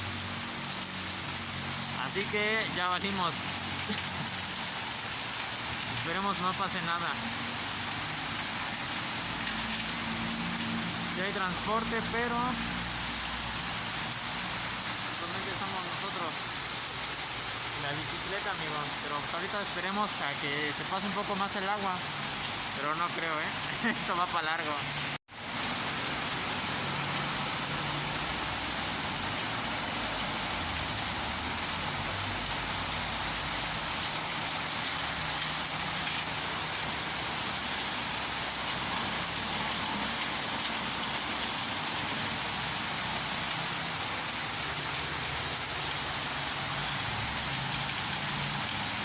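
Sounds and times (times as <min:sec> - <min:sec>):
heavy rain hiss: 0:00.0 - 0:49.0
low rumble of road traffic: 0:00.0 - 0:49.0.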